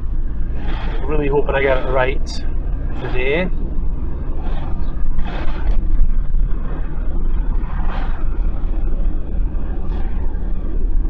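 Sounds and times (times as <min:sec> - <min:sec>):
diesel engine rumble inside car: 0:00.0 - 0:11.0
road noise: 0:00.0 - 0:11.0.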